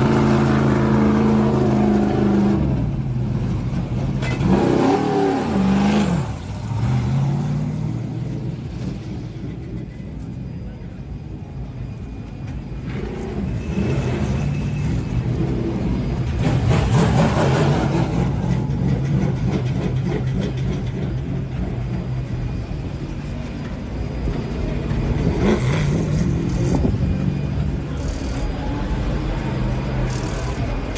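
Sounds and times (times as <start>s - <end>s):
race truck engine running: 0.0s - 30.9s.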